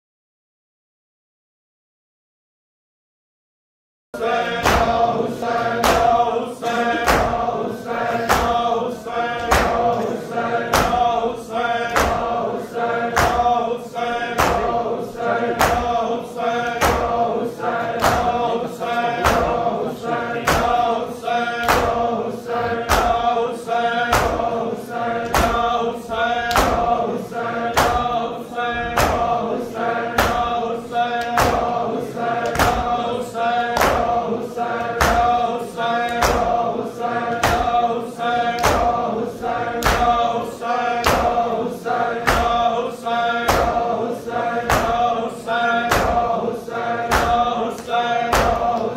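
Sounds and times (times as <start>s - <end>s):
men chanting a lament: 4.2s - 48.9s.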